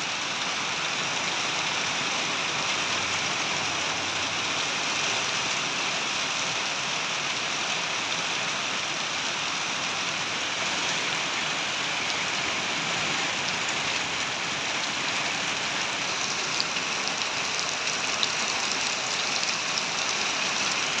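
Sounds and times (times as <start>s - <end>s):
heavy rain on road and roofs: 0.0s - 21.0s.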